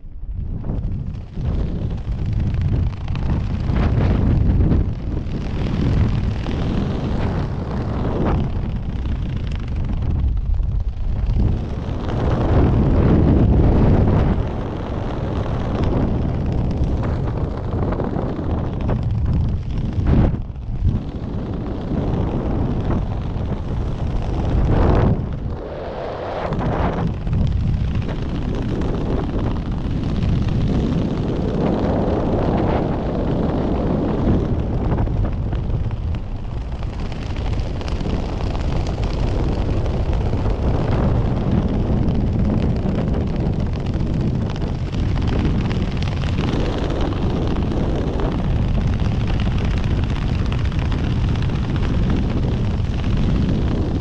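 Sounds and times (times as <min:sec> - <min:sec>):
wind roaring on microphone: 0:00.0 - 0:54.0.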